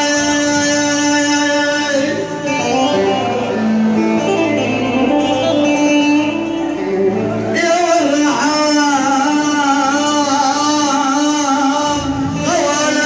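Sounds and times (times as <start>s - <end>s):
man singing ornamented notes: 0.0s - 5.5s, 7.4s - 13.0s
instrumental melody: 0.2s - 10.8s.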